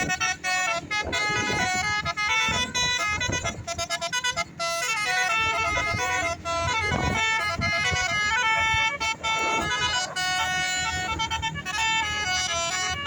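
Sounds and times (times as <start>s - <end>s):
bus musical horn melody: 0.0s - 13.0s.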